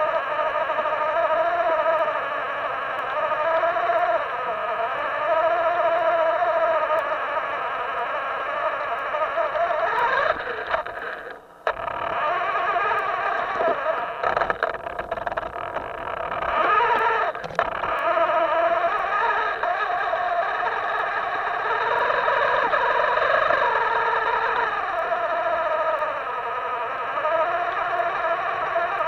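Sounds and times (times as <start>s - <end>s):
rc boat electric motor whining: 0.0s - 29.0s.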